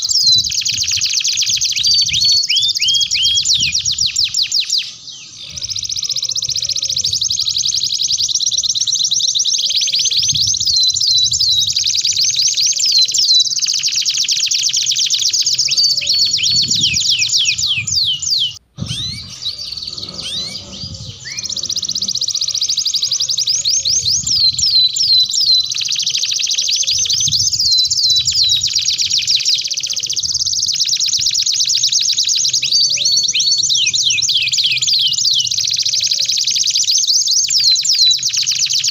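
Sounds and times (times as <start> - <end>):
canaries singing trills: 0.0 - 38.9.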